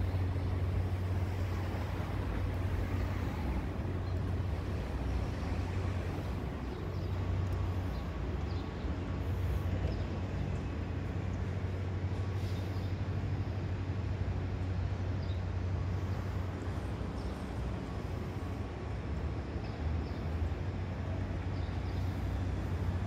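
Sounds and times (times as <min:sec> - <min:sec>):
low hum of traffic: 0:00.0 - 0:23.0.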